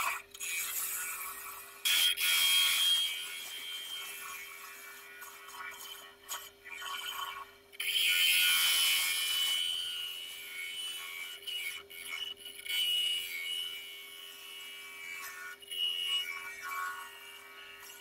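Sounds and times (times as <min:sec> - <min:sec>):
gouge cutting wood on lathe: 0:00.0 - 0:18.0.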